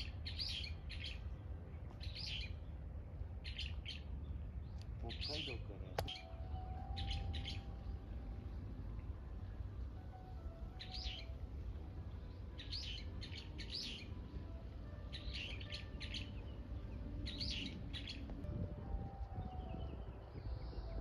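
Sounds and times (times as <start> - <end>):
low background rumble: 0.0 - 21.0
songbird chirping: 0.0 - 21.0.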